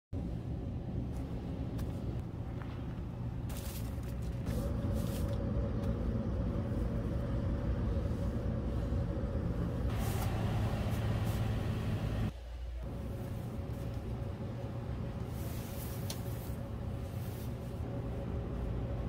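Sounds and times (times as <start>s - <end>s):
low rumble with hum: 0.2s - 19.0s.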